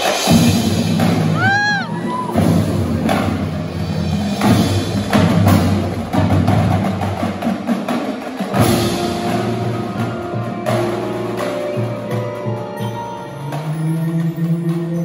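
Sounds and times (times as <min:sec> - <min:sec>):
marching drums playing rapidly: 0:00.0 - 0:12.8
marimbas: 0:00.0 - 0:15.0.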